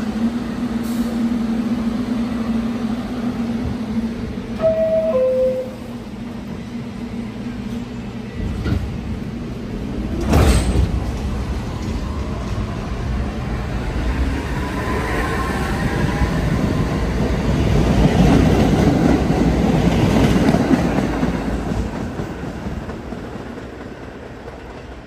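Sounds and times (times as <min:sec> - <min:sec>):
train humming: 0:00.0 - 0:25.0.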